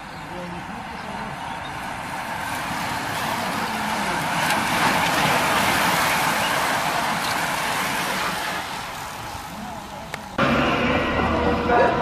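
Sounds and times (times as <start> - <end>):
hiss of tyres and drivetrains: 0.0 - 12.0
racing bicycles passing: 0.0 - 12.0.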